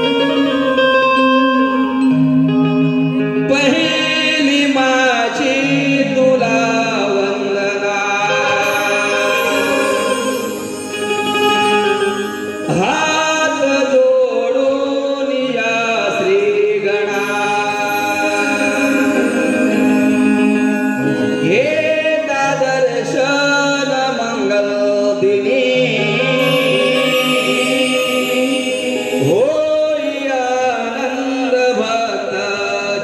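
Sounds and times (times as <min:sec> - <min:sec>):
held accompaniment tones: 0:00.0 - 0:14.2, 0:16.4 - 0:31.2
person singing into a microphone: 0:00.0 - 0:33.0.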